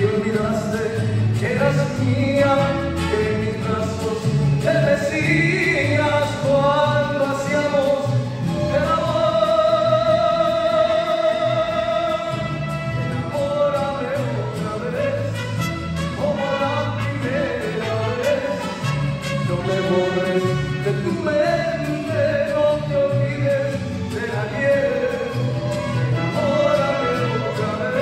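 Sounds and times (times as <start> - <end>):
man singing into microphone: 0.0 - 28.0
mariachi band playing: 0.0 - 28.0.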